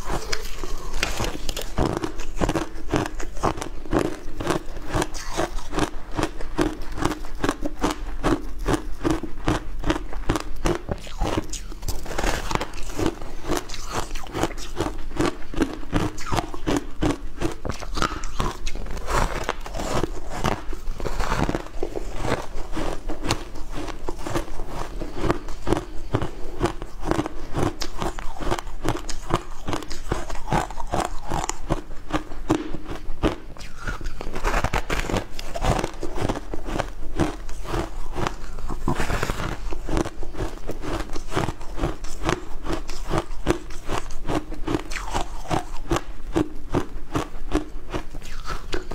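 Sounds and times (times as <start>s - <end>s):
crunching ice chewing: 0.0s - 48.9s.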